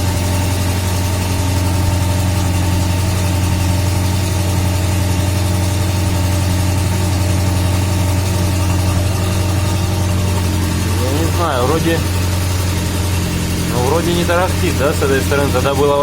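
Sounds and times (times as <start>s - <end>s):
car axle turning with low hum: 0.0s - 16.0s.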